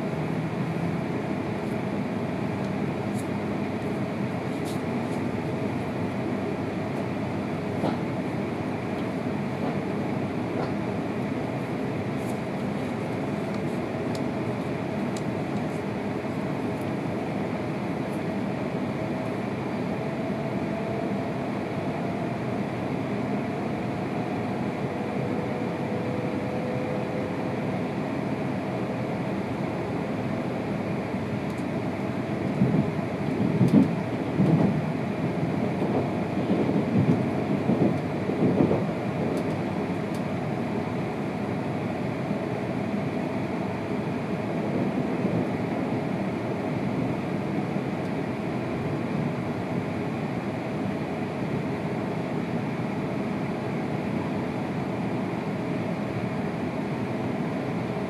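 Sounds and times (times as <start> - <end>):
faint train whine: 0.0 - 58.0
train running gear rumble: 0.0 - 58.0.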